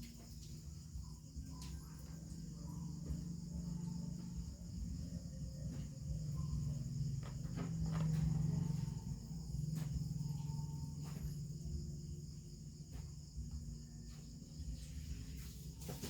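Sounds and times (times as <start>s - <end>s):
insects trilling: 0.0s - 16.0s
low steady hum: 0.0s - 16.0s.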